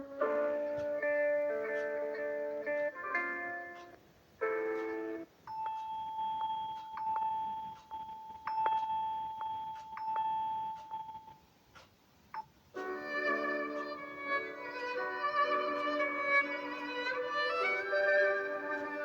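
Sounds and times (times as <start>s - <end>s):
melodic ringtone: 0.0s - 11.4s, 12.8s - 19.0s
steady ringtone tone: 0.0s - 11.5s, 12.8s - 19.0s
light regular ticks: 3.7s - 19.0s.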